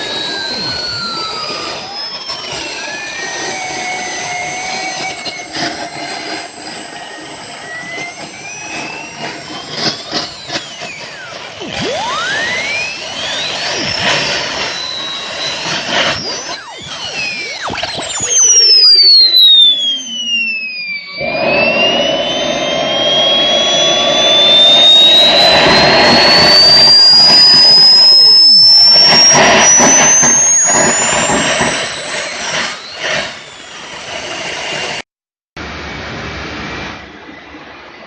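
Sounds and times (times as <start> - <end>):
exhaust rush: 0.0 - 35.0
jet turbine whine: 0.0 - 38.0.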